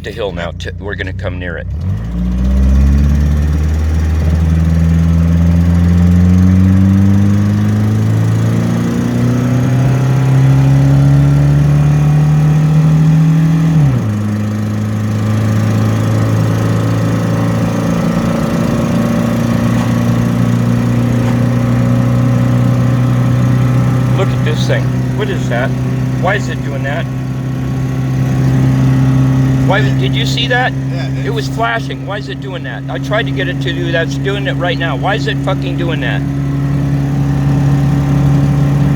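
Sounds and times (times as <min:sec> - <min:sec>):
car engine accelerating uphill: 0:00.0 - 0:38.9.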